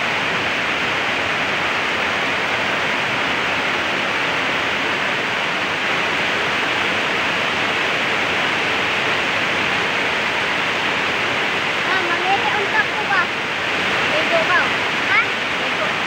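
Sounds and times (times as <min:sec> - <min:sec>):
heavy rain downpour: 0:00.0 - 0:16.0
stream pouring over waterfall: 0:00.0 - 0:16.0.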